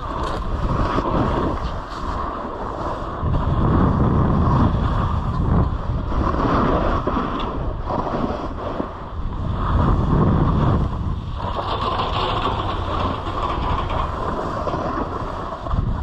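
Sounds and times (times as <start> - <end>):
snowboard scraping across snow: 0.0 - 13.5
wind rushing over microphone: 0.0 - 16.0.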